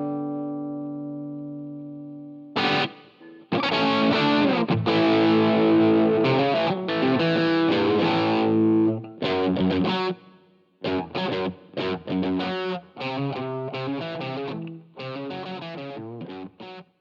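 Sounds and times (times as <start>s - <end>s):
overdriven electric guitar chords: 0.0s - 16.9s.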